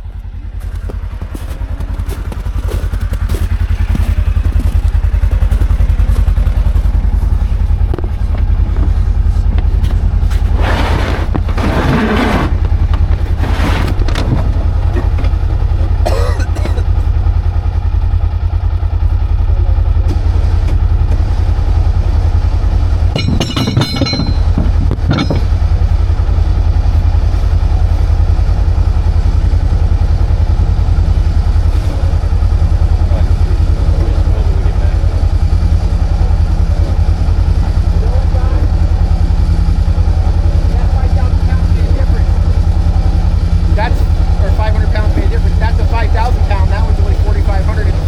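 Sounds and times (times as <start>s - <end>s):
engine running low rumble: 0.0s - 48.0s.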